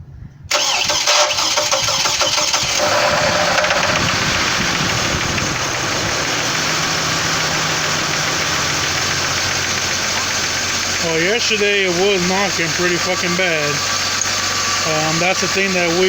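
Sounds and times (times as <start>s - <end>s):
car engine idling: 0.5s - 16.0s.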